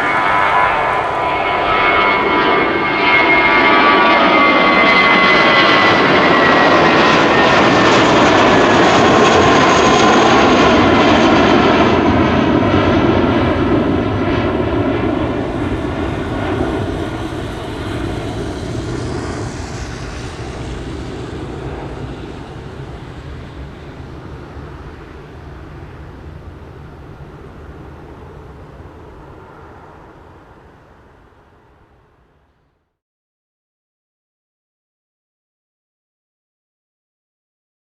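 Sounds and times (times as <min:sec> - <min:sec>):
jet engine roar with fan whine: 0:00.0 - 0:32.9.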